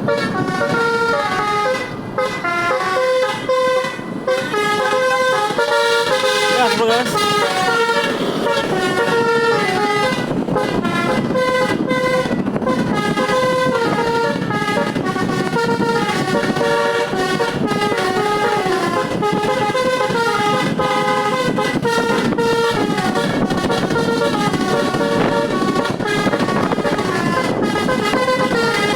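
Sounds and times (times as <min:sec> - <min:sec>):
musical air horn playing tune: 0:00.0 - 0:28.9
road noise rumble: 0:00.0 - 0:28.9.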